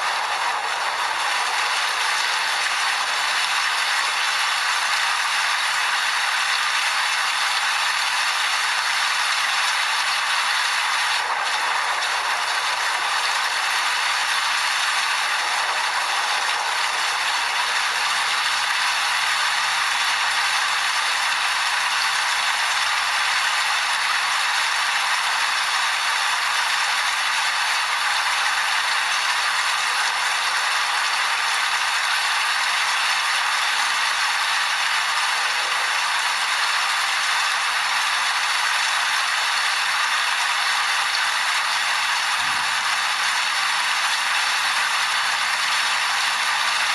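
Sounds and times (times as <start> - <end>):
heavy rainfall: 0.0 - 46.9.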